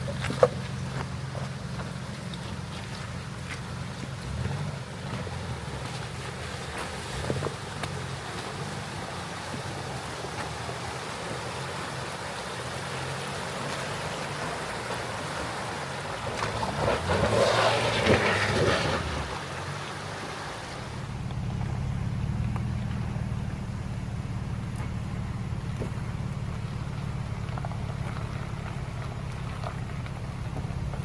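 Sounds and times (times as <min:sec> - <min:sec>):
car engine running low: 0:00.0 - 0:31.0.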